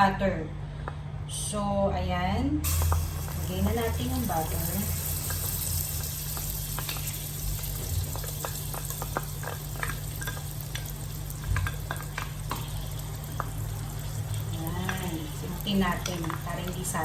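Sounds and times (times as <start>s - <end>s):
butter sizzling in frying pan: 2.6s - 17.0s.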